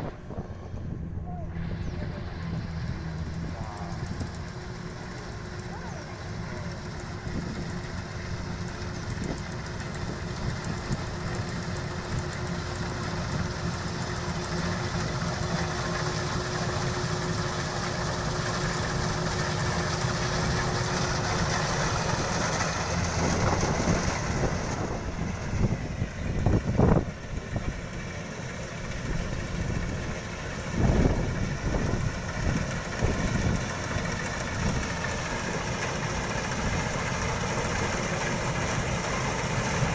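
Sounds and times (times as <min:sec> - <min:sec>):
combine harvester running: 0:00.0 - 0:39.9
machinery whine: 0:00.0 - 0:39.9.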